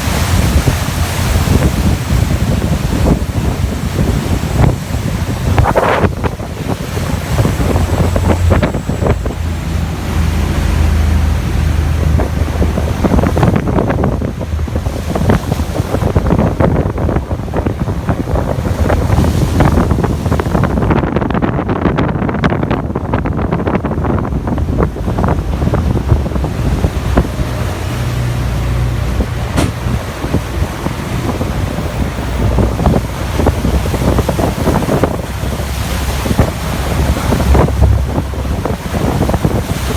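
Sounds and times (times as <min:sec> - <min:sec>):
boat motor drone: 0:00.0 - 0:39.9
water rushing: 0:00.0 - 0:39.9
wind buffeting microphone: 0:00.0 - 0:39.9.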